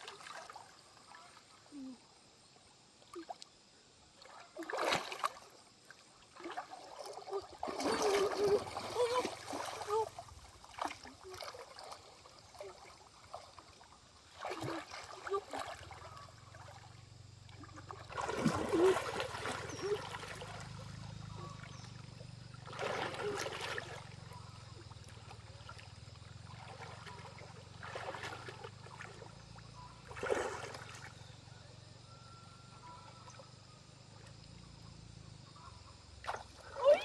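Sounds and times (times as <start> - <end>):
water splashing in a stream: 0.0 - 1.8, 2.8 - 31.6, 36.0 - 37.0.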